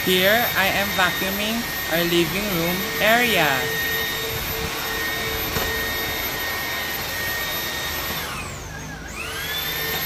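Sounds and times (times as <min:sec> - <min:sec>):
stick vacuum cleaner whirring: 0:00.0 - 0:10.0.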